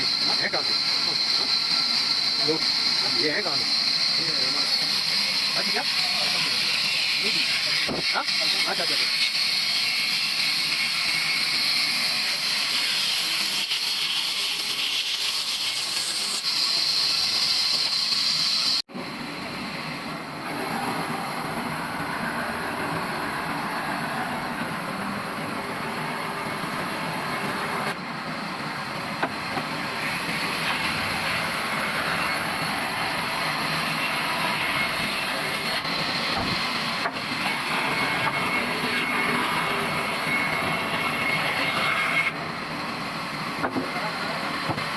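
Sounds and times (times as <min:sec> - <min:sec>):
broad machine noise: 0:00.0 - 0:44.9
sawmill machinery hissing: 0:00.0 - 0:44.9.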